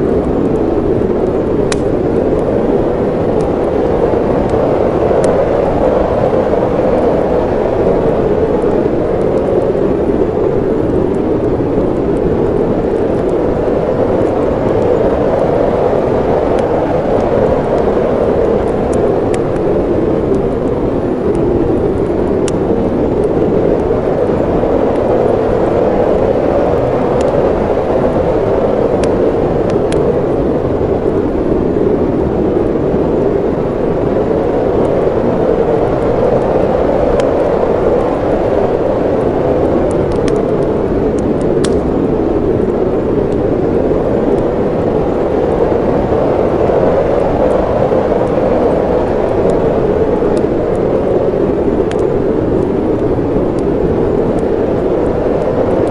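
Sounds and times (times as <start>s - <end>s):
storm wind rushing: 0.0s - 55.9s
wood fire crackling: 0.0s - 55.9s.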